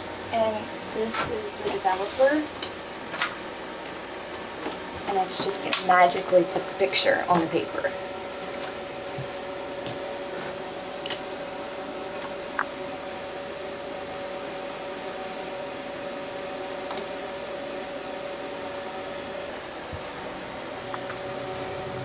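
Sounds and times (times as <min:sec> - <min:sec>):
mechanical hum: 0:00.0 - 0:22.0.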